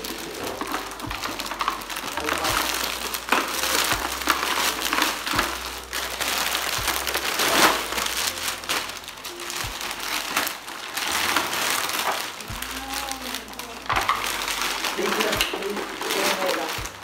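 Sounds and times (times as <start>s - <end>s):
wrapping paper crinkling and rustling: 0.0s - 17.0s.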